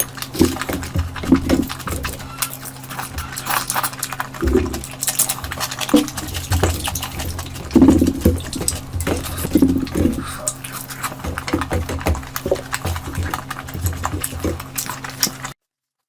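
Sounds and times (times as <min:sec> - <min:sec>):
steady low hum: 0:00.0 - 0:15.5
wet chewing and slurping: 0:00.0 - 0:15.6.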